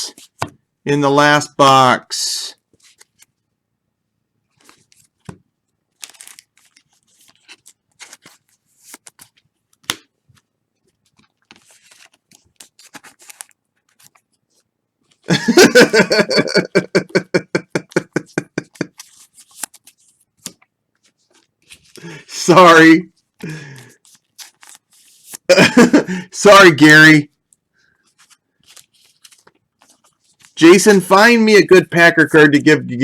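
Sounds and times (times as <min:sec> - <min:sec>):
cards and packaging rustling: 0:02.7 - 0:03.4, 0:04.5 - 0:31.4.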